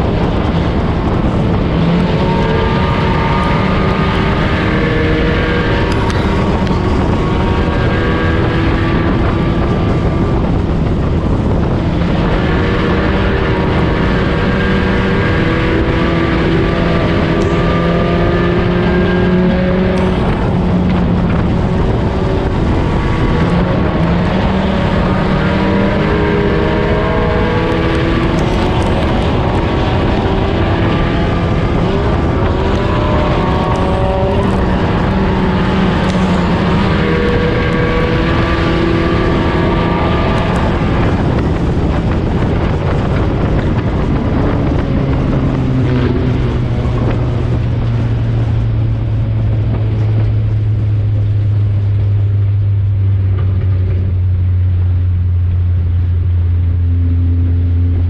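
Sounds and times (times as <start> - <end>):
race car engine: 0.0 - 58.0
road and wind noise: 0.0 - 58.0.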